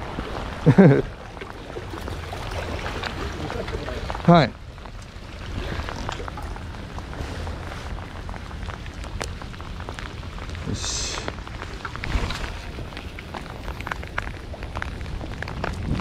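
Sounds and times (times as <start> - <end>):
low wind rumble: 0.0 - 16.0
raindrop ticks: 0.0 - 16.0.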